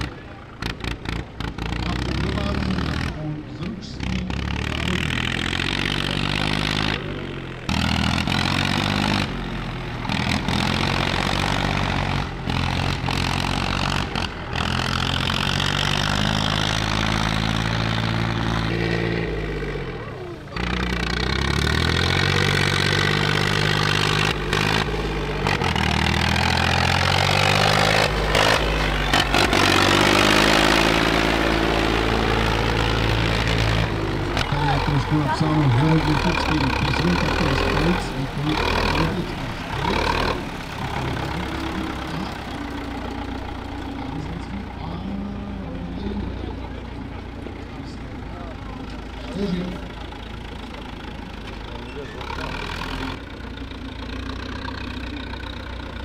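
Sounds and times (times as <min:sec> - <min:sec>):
tractor engines revving: 0:00.0 - 0:56.0.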